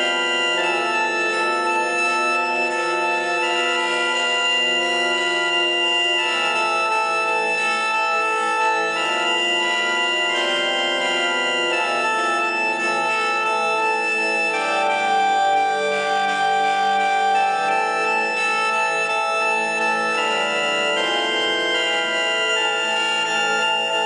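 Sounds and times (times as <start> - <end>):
sustained organ-like chords: 0.0 - 24.0.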